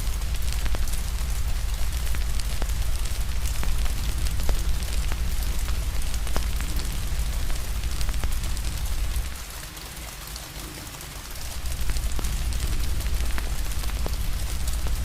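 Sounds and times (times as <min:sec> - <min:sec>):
deep steady rumble: 0:00.0 - 0:09.4, 0:11.4 - 0:15.0
fire crackling and popping: 0:00.0 - 0:09.6, 0:11.3 - 0:15.0
steady rain hiss: 0:00.0 - 0:15.0.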